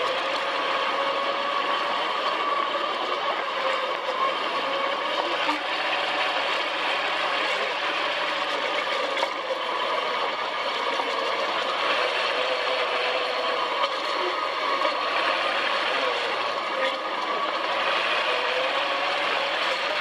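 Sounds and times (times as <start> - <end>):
buggy engine running: 0.0 - 20.0.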